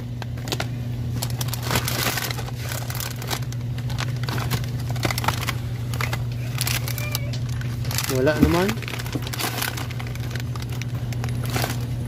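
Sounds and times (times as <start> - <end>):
plastic packets crinkling: 0.0 - 12.0
steady low hum: 0.0 - 12.0.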